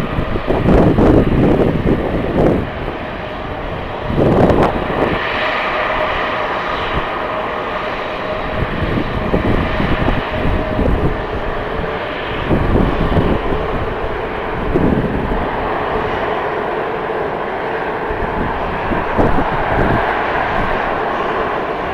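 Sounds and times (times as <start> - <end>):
jet engines whining: 0.0 - 21.9
wind buffeting microphone: 0.0 - 21.9.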